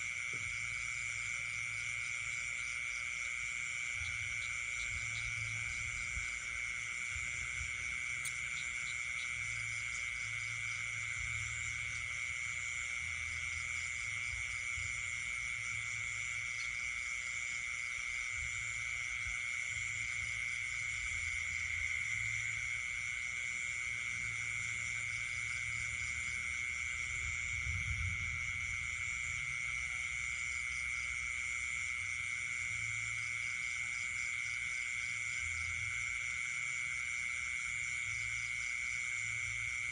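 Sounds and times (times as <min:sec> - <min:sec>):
frogs calling: 0:00.0 - 0:39.9
high-pitched insect trill: 0:00.0 - 0:39.9.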